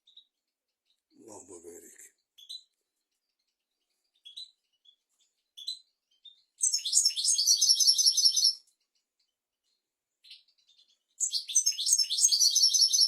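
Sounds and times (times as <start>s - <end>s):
bird chirps: 0.0s - 13.0s
rapid high-pitched bird twittering: 0.0s - 13.0s.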